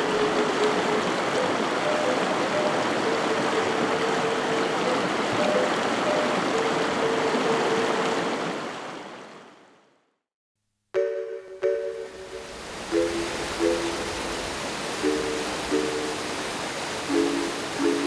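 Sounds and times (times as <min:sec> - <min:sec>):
brook water running: 0:00.0 - 0:10.0, 0:11.6 - 0:18.0.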